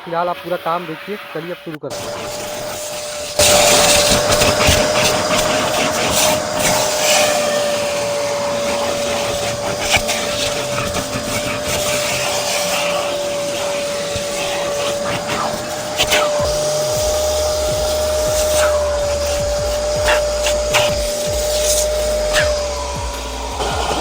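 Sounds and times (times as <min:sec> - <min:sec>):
vacuum cleaner whining: 0:00.0 - 0:24.0
nozzle knocking and rubbing: 0:01.9 - 0:24.0.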